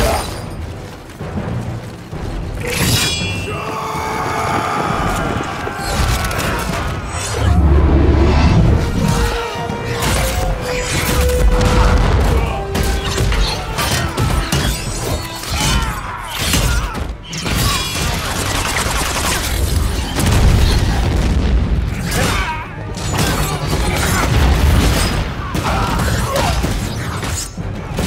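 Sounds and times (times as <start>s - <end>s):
action film music score: 0.0s - 28.0s.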